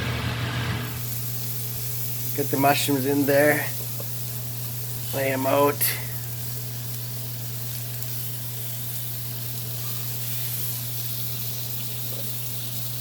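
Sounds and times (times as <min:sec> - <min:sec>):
kitchen exhaust fan hum: 0:00.0 - 0:13.0
mushrooms sizzling in butter: 0:00.8 - 0:13.0.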